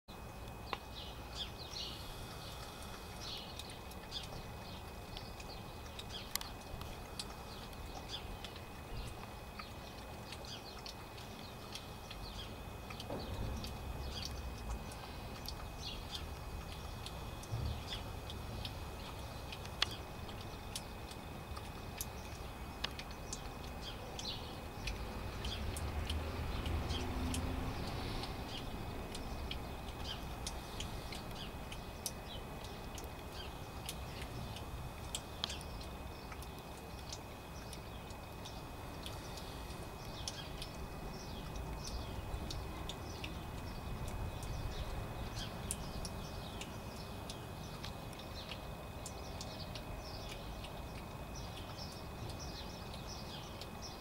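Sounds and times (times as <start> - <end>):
steady low rumble: 0.1 - 54.0
birds chirping: 0.2 - 54.0.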